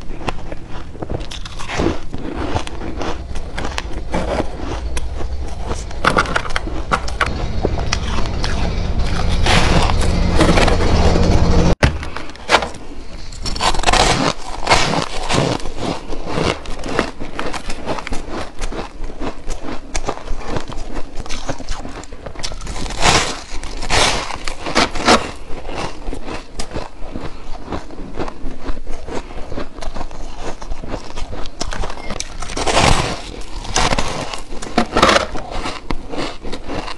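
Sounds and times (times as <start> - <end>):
chewing shaved ice crunches: 0.0 - 10.4, 13.1 - 36.9.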